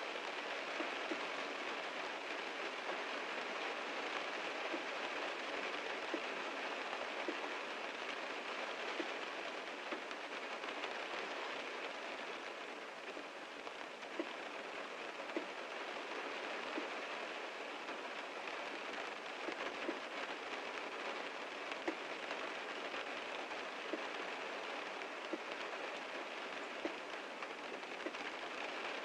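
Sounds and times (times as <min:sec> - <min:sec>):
raindrops tapping on car: 0:00.3 - 0:29.0.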